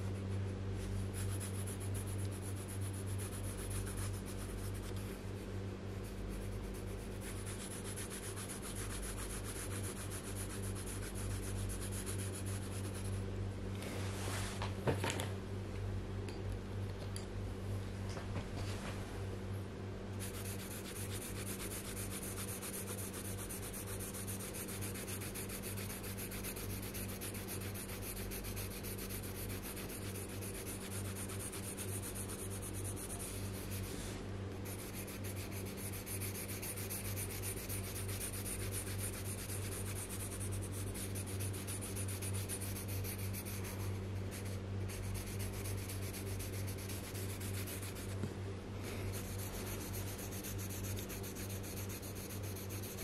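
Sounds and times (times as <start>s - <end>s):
low electrical hum: 0.0s - 53.0s
pencil scratching on paper: 1.1s - 5.4s, 6.0s - 13.2s, 20.2s - 48.2s, 48.8s - 53.0s.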